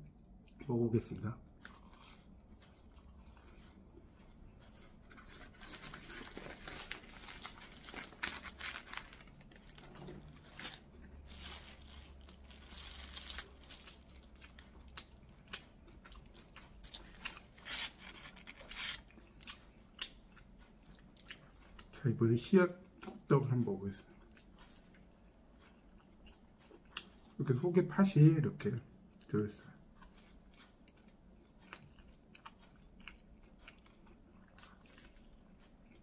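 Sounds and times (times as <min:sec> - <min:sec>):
person chewing crunchy food: 0:01.5 - 0:21.9, 0:24.1 - 0:27.4, 0:29.0 - 0:36.0.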